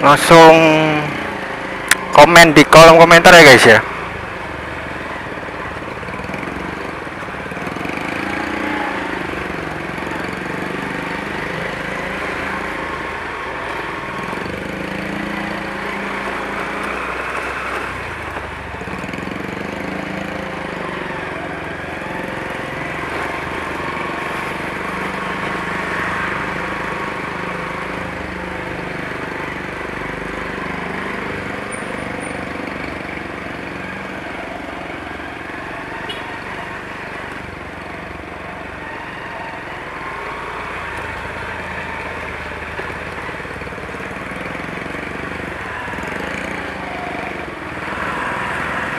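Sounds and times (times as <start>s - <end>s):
road noise: 0.0s - 48.9s.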